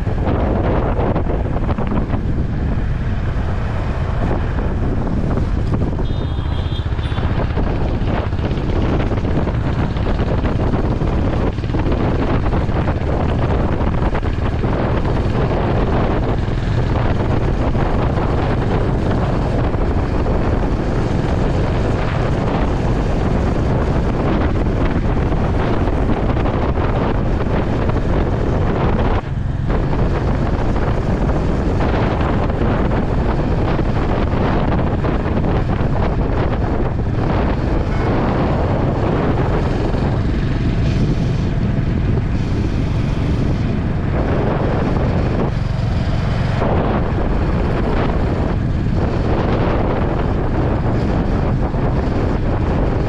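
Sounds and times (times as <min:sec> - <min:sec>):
motorcycle engine: 0:00.0 - 0:53.0
road noise: 0:00.0 - 0:53.0
wind rush on microphone: 0:00.0 - 0:53.0.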